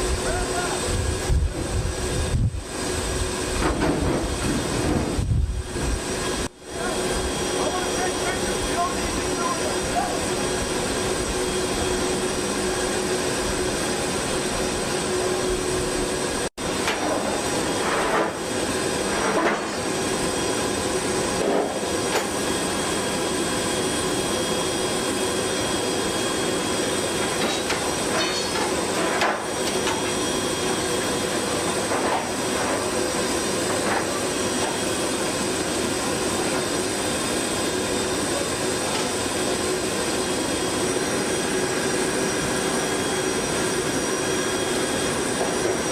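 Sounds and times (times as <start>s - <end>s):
jet engine whine: 0.0s - 45.9s.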